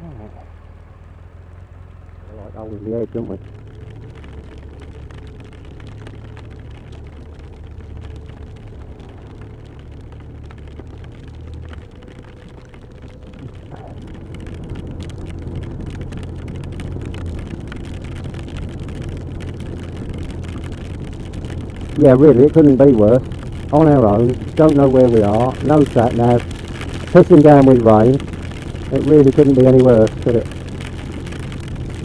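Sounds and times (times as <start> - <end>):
motorcycle engine hum: 0.0 - 32.0
raindrops hitting microphone: 0.0 - 32.0
tyre noise on wet road: 0.0 - 32.0
wind: 0.0 - 32.0.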